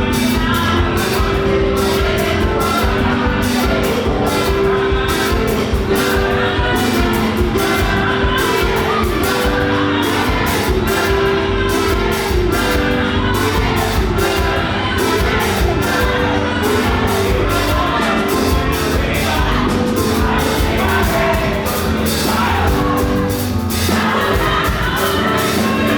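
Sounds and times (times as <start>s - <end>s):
crowd shouting: 0.0s - 25.9s
drum beat: 0.0s - 25.9s
live gospel band: 0.0s - 25.9s
person singing: 0.0s - 25.9s.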